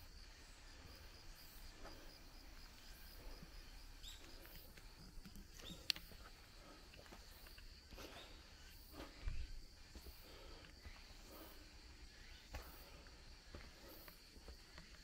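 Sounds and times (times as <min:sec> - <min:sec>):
footsteps on woodland path: 0:00.0 - 0:15.0
high insect trill: 0:00.0 - 0:15.0.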